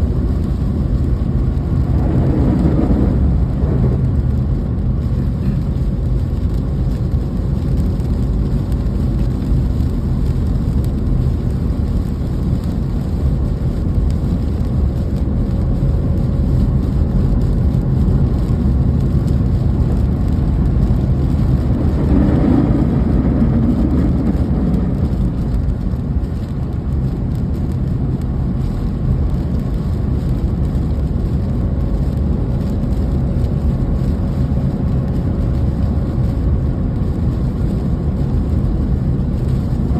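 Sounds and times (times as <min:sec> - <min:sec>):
deep constant rumble: 0:00.0 - 0:39.9
steady rain: 0:00.0 - 0:39.9.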